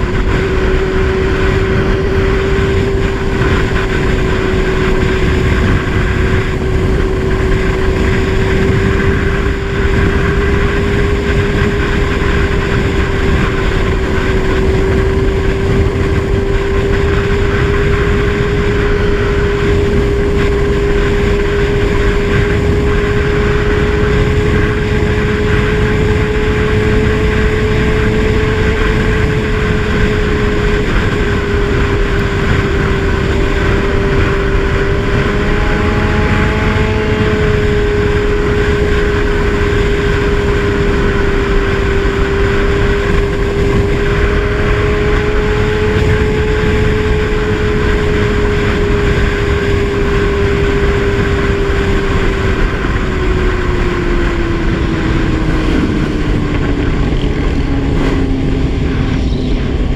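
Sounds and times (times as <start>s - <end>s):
motorcycle engine cruising: 0.0s - 59.9s
wind rushing on microphone: 0.0s - 59.9s.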